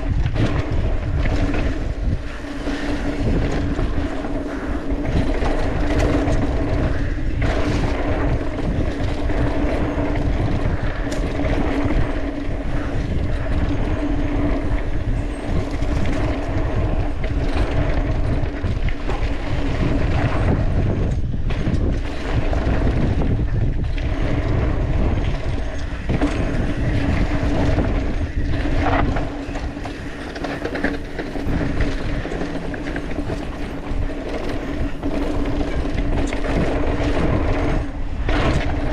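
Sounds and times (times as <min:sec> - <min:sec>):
bike rattling over bumps: 0:00.0 - 0:38.9
bike tyres rumbling on dirt: 0:00.0 - 0:38.9
steady hum: 0:00.0 - 0:38.9
wind on microphone: 0:00.0 - 0:38.9.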